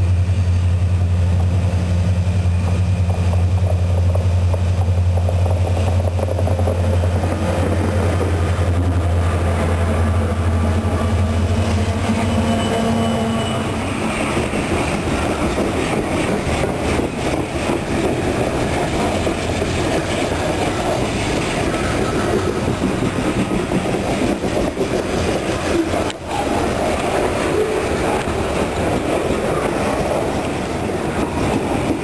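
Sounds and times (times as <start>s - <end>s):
train wheels rumbling on rails: 0.0s - 32.0s
wheels clacking: 2.6s - 9.8s, 11.7s - 32.0s.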